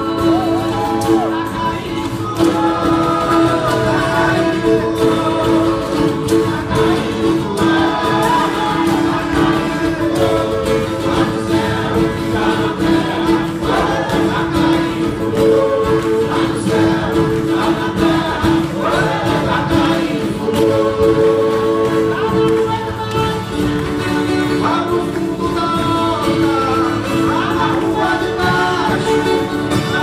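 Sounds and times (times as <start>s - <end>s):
acoustic guitars strumming: 0.0s - 30.0s
people singing together: 0.0s - 30.0s.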